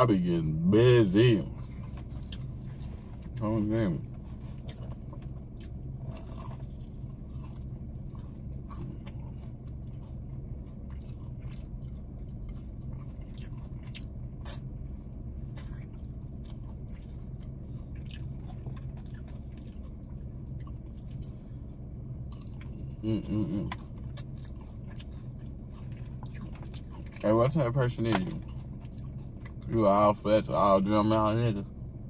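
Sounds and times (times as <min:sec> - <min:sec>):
steady low hum: 0:00.0 - 0:32.0
chewing fried chicken: 0:00.1 - 0:31.8.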